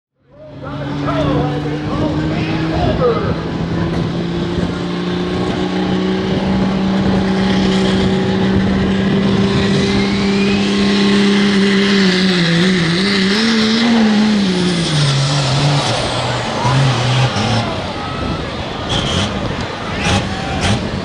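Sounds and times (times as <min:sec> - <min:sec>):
diesel truck engine at full throttle: 0:00.2 - 0:21.0.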